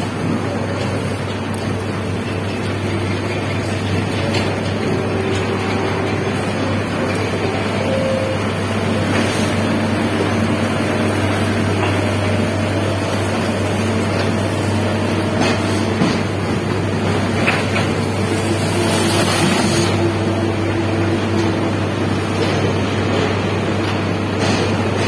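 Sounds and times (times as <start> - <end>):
machinery droning: 0.0 - 25.0.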